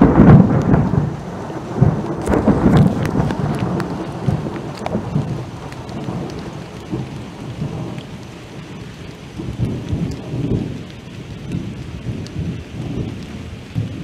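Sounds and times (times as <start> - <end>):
rain on foliage: 0.0 - 14.0
thunder rumble: 0.0 - 14.0.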